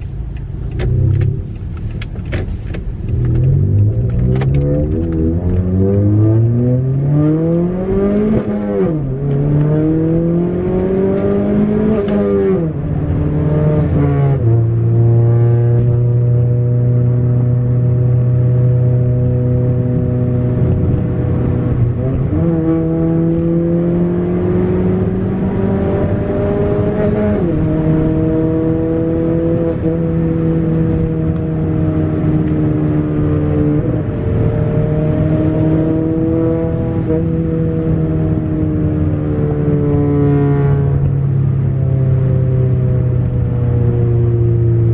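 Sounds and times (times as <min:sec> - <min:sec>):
car engine pulling through gears: 0:00.0 - 0:44.9.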